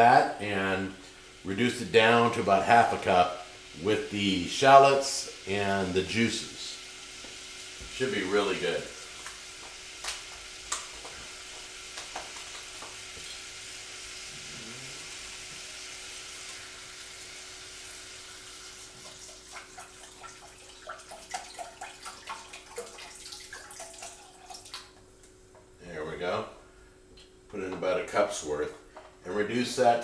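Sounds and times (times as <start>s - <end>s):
shallots sizzling in pan juices: 0.0s - 25.0s.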